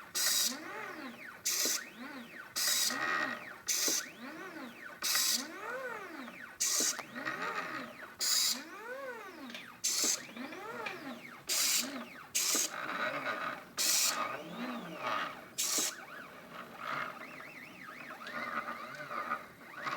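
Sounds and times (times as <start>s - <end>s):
stepper motors whining: 0.2s - 19.9s.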